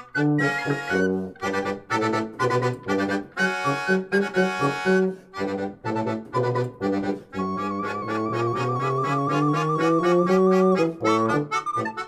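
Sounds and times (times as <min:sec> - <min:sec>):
instrumental tune in short chords: 0:00.0 - 0:12.0.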